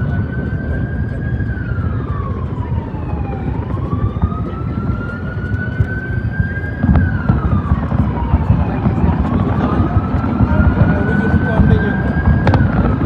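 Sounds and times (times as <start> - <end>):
fireworks exploding: 0.0 - 13.0
siren wailing: 0.0 - 13.0.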